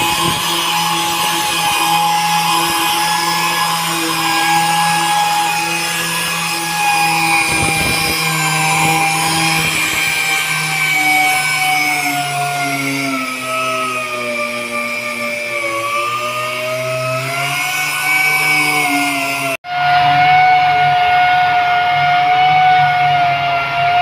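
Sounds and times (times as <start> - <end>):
air sander whining: 0.0 - 24.0.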